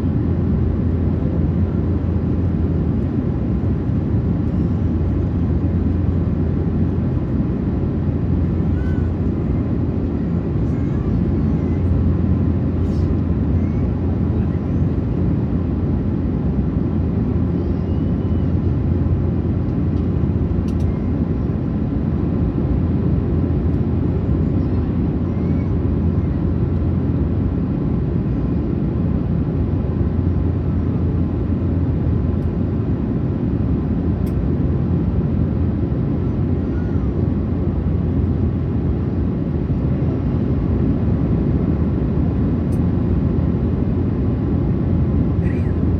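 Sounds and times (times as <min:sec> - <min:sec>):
airliner cabin engine drone: 0:00.0 - 0:45.9.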